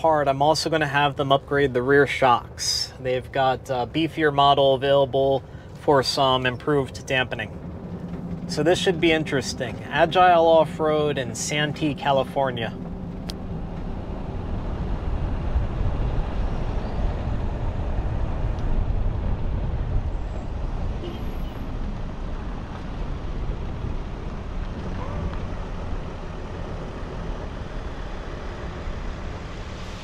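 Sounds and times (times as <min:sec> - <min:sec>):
road noise: 0:00.0 - 0:30.0
van engine: 0:00.0 - 0:30.0.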